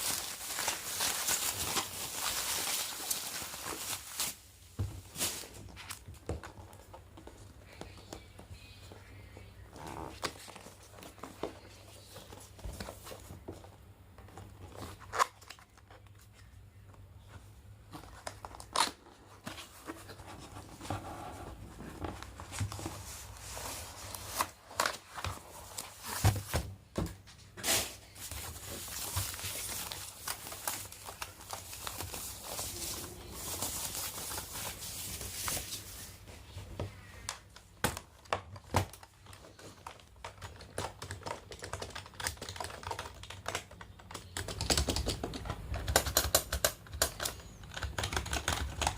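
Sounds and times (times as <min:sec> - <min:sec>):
plastic and paper crinkling: 0:00.0 - 0:09.4, 0:17.9 - 0:48.9.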